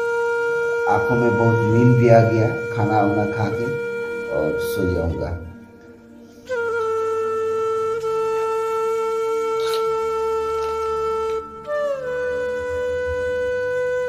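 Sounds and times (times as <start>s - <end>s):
wind instrument long notes: 0.0s - 14.0s.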